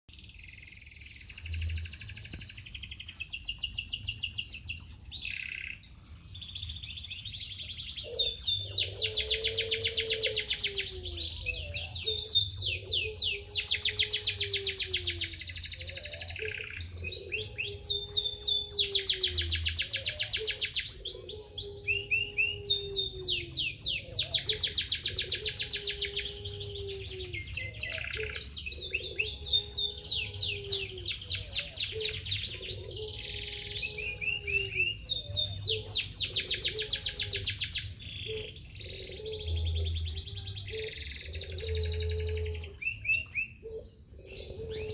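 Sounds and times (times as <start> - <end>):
canary trilling song: 0.1 - 44.9.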